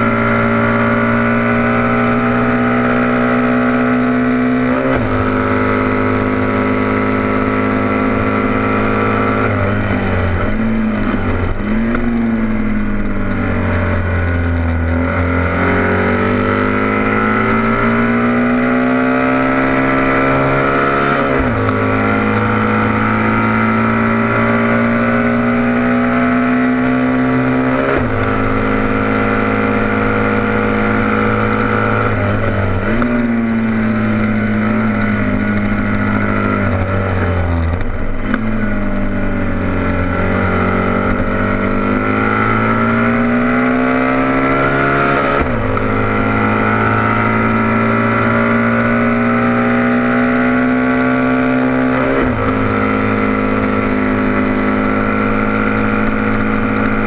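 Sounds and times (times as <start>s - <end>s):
racing motorcycle engine: 0.0s - 57.0s.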